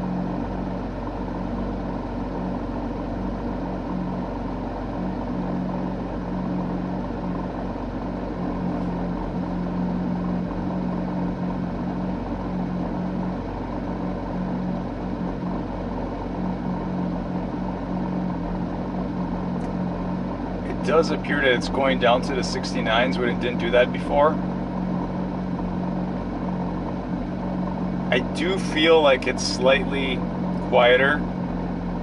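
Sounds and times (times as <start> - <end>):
engine drone inside car cabin: 0.0 - 32.0.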